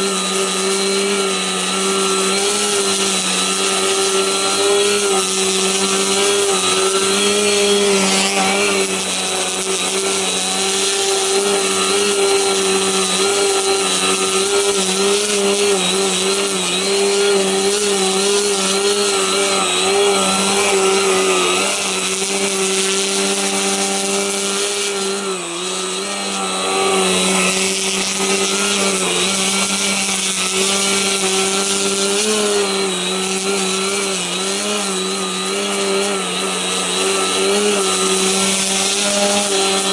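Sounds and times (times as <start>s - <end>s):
electric model plane whine: 0.0s - 39.9s.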